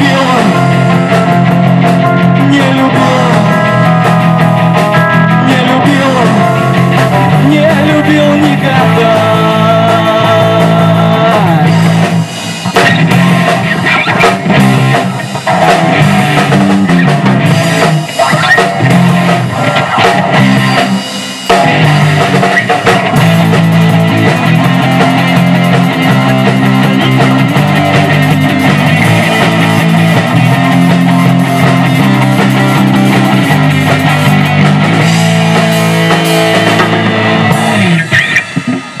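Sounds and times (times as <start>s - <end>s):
instrumental rock music: 0.0s - 39.0s.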